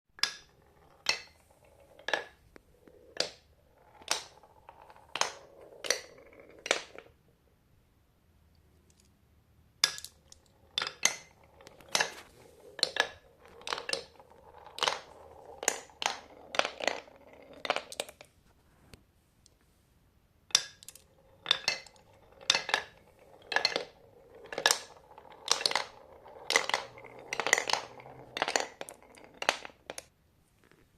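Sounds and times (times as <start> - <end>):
marbles clacking on marble run: 0.2 - 7.2, 9.8 - 18.3, 20.5 - 30.1.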